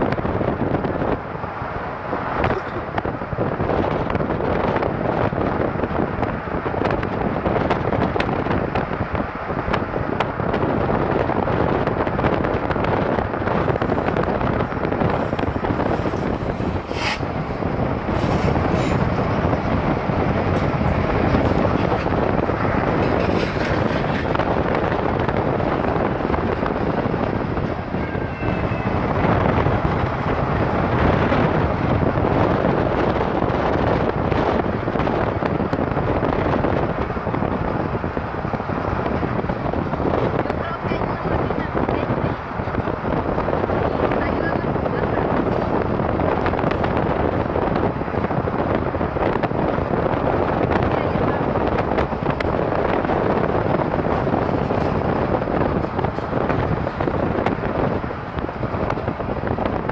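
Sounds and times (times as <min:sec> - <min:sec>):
car wind and road noise: 0:00.0 - 0:59.9
freight train running: 0:00.0 - 0:59.9.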